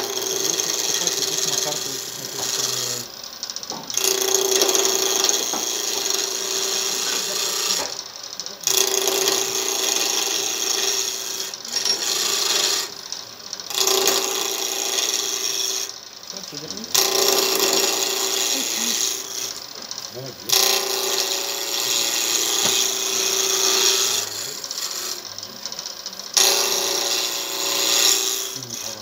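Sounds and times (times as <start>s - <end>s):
lathe motor hum: 0.0s - 29.0s
lathe tool scraping wood: 0.0s - 29.0s.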